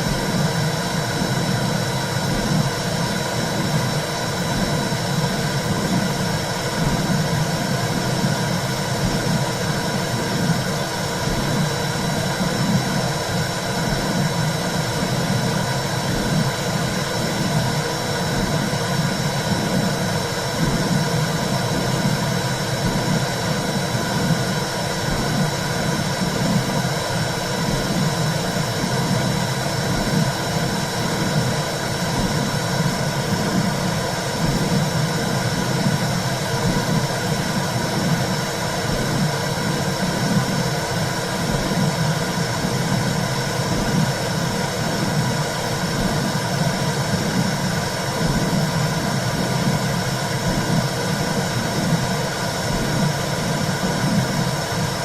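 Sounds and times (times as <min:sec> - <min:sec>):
low whooshing womb rumble: 0:00.0 - 0:55.0.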